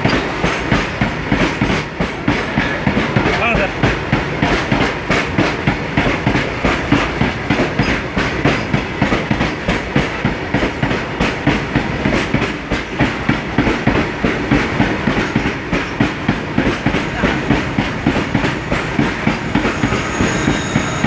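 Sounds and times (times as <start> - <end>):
train wheels clattering over rail joints: 0.0 - 21.0.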